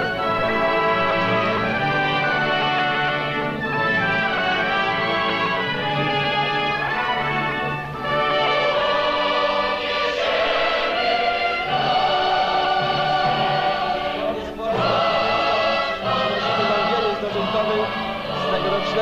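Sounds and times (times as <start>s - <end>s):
choir singing sustained notes: 0.0s - 19.0s
instrumental backing: 0.0s - 19.0s.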